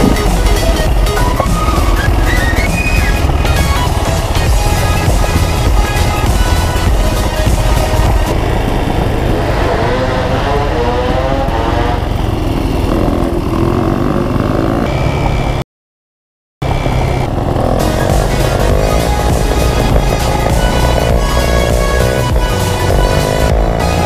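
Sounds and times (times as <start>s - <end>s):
dirt bike engine revving: 0.0s - 15.6s, 16.6s - 24.0s.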